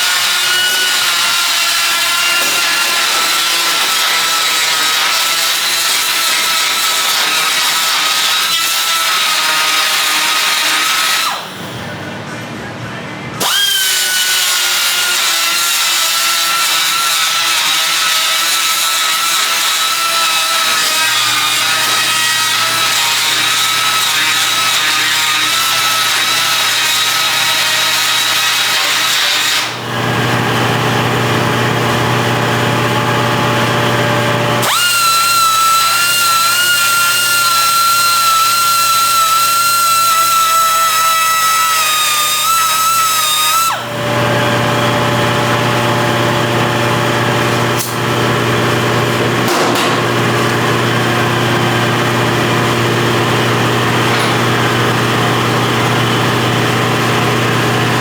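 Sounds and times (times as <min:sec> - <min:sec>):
power grinder on metal: 0:00.0 - 0:11.6, 0:13.4 - 0:30.5, 0:33.6 - 0:58.0.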